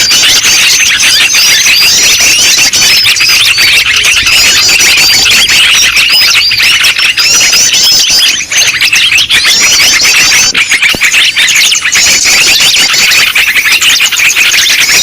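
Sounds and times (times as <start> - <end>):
rapid bird chips and chatter: 0.0 - 15.0
songbirds whistling: 0.0 - 15.0.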